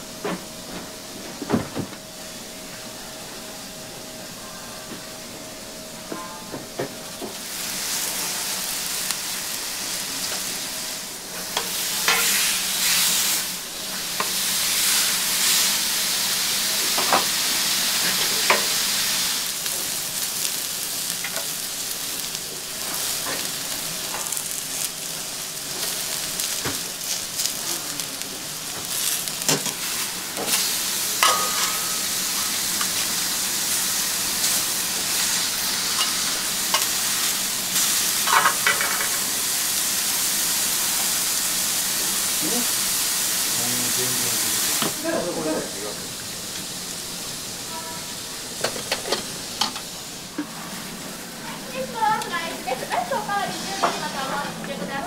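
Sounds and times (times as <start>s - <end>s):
food sizzling on a hot griddle: 0.0s - 4.8s, 5.5s - 55.0s.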